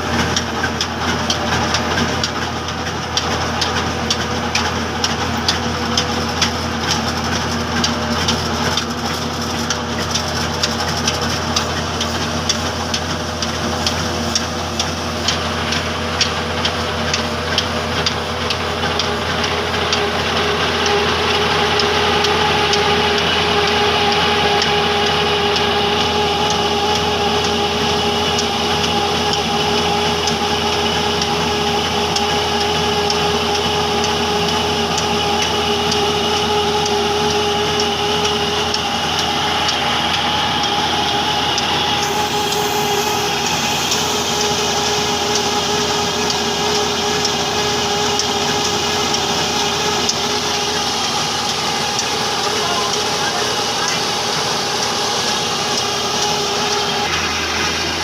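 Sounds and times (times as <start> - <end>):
diesel engine running: 0.0 - 58.0
machinery whine: 0.0 - 58.0.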